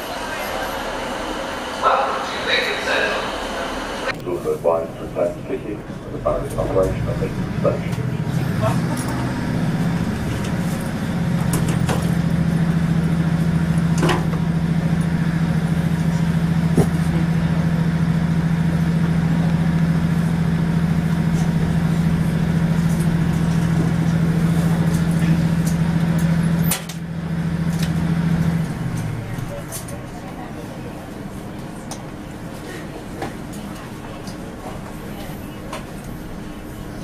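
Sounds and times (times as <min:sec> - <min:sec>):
train diesel engine drone: 0:00.0 - 0:37.0.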